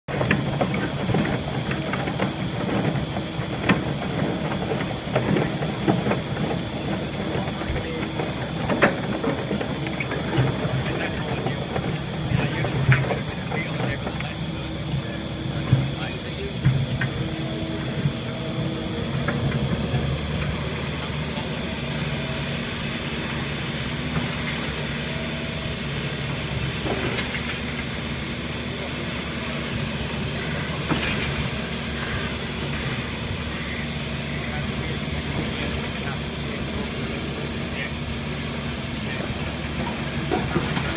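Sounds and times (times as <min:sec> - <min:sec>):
excavator diesel engine drone: 0:00.1 - 0:40.9.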